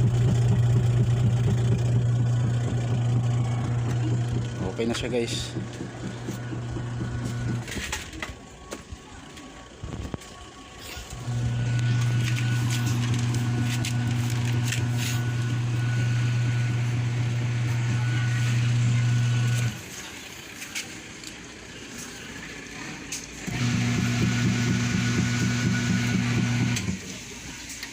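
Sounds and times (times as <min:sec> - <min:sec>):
washing machine motor humming: 0:00.0 - 0:08.6, 0:11.0 - 0:27.9.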